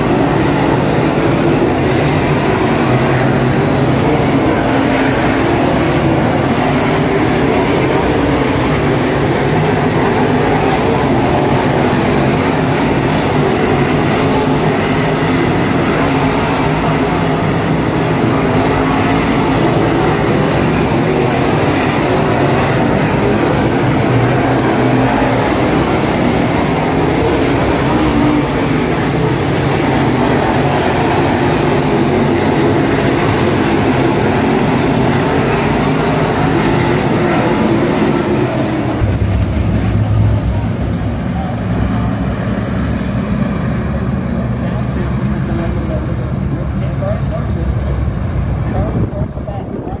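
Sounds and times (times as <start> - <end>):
race car engines roaring: 0.0 - 50.0.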